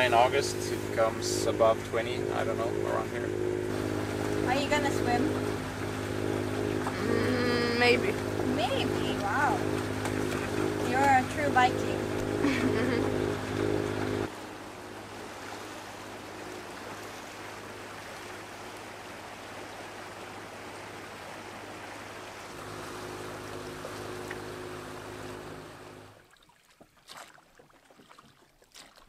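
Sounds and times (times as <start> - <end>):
low engine hum: 0.0 - 26.3
water rushing along hull: 0.0 - 29.0.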